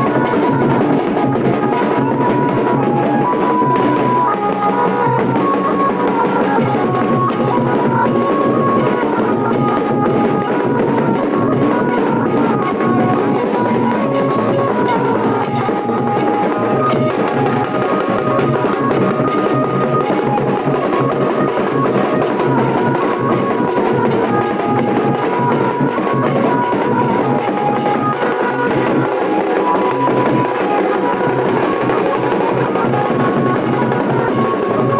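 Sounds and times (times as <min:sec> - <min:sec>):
dhol drumming: 0:00.0 - 0:34.9
melody of held notes: 0:00.0 - 0:34.9.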